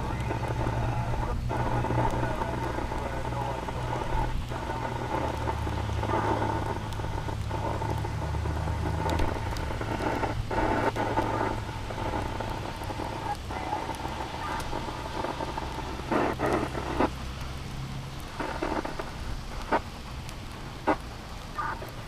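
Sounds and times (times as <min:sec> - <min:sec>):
low thunder rumble: 0:00.0 - 0:22.0
steady rain falling: 0:00.0 - 0:22.0.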